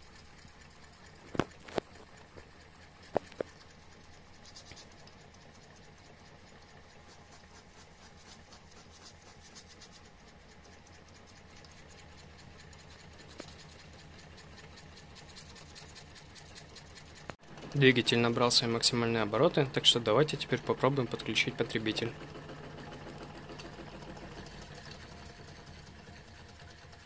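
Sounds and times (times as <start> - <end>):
engine mechanism ticking: 0.0 - 8.0, 10.0 - 27.0.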